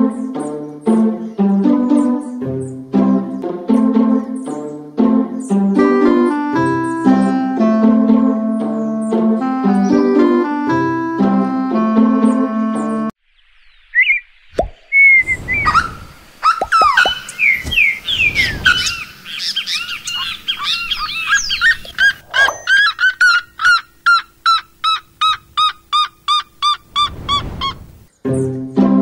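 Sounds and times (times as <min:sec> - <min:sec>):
songbird singing: 0:00.0 - 0:28.7.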